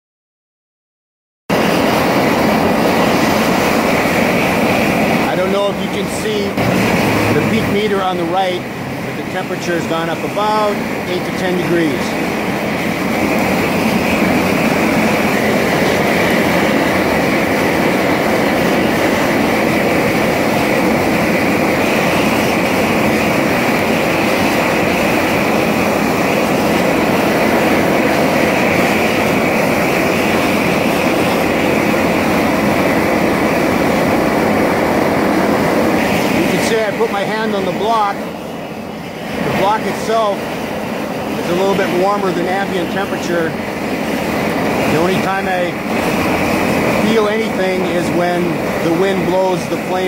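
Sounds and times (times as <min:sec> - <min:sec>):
torch flame rushing: 0:01.5 - 0:50.0.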